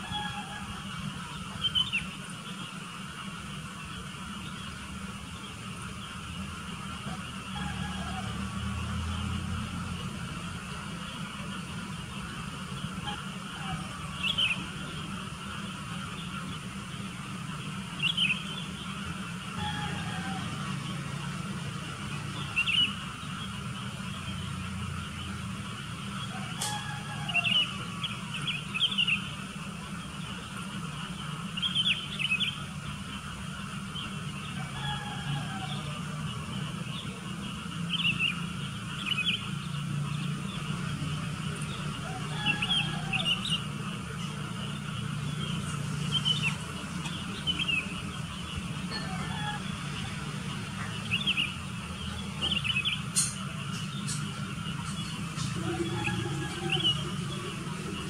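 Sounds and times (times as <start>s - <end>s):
bulbuls calling: 0.0s - 58.0s
steady low hum: 0.0s - 58.0s.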